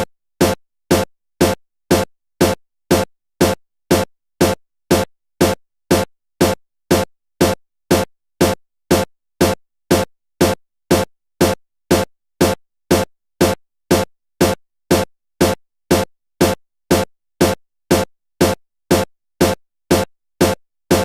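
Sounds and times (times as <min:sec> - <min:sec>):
drum machine beat: 0:00.0 - 0:21.0.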